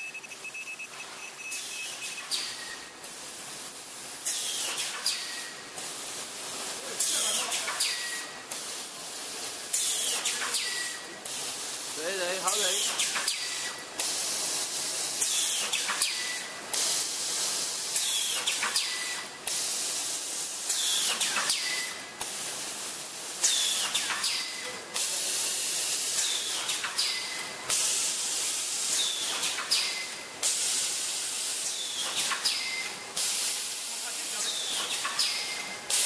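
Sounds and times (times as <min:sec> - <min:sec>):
bag-making machine running: 0:01.8 - 0:36.0
pneumatic cylinders hissing: 0:04.2 - 0:36.0.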